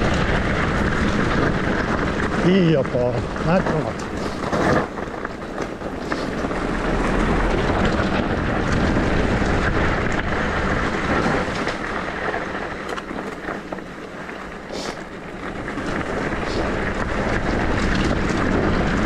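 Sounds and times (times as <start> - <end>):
sharp clicks and rattles: 0.0 - 19.0
tyre noise: 0.0 - 19.0
wind rushing on microphone: 0.0 - 19.0.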